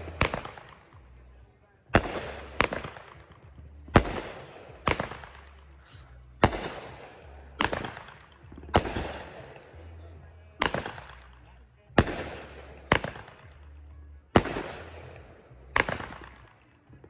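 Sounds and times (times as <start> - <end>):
fireworks bangs with crackle: 0.0 - 1.2, 2.0 - 9.9, 10.6 - 11.4, 12.0 - 13.6, 14.4 - 16.6.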